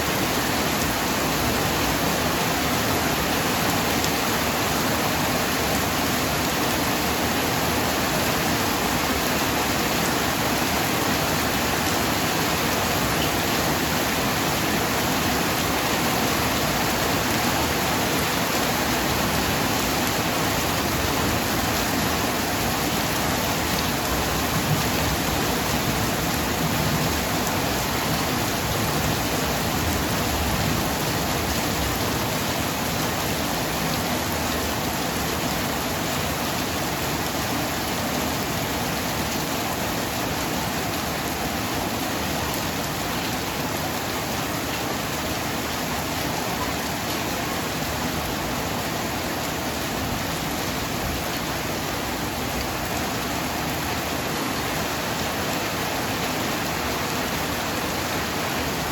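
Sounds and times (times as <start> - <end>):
heavy rain: 0.0 - 58.9.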